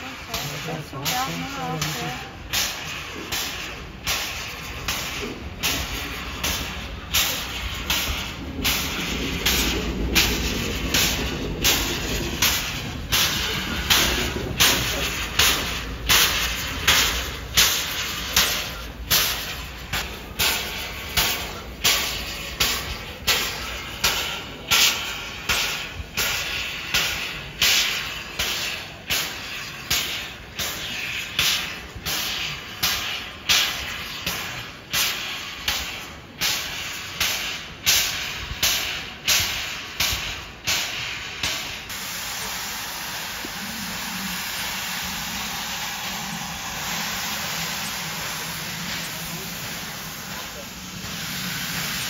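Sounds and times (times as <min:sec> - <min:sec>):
steam locomotive chuffing: 0:00.0 - 0:52.0.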